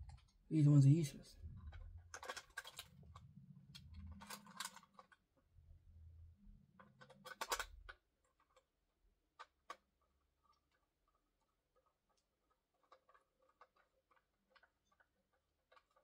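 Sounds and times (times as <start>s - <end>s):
batteries and plastic toy clattering: 1.5s - 5.3s, 6.8s - 16.0s.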